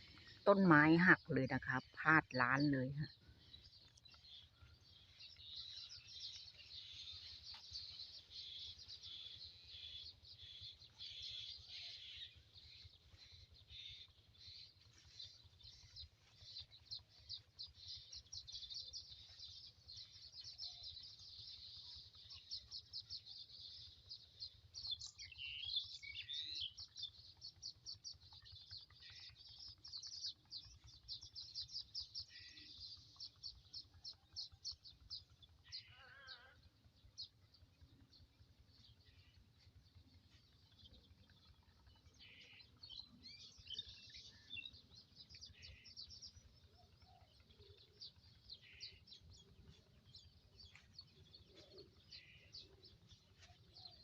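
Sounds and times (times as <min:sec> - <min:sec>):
faint bird chirping: 0:00.0 - 0:54.0.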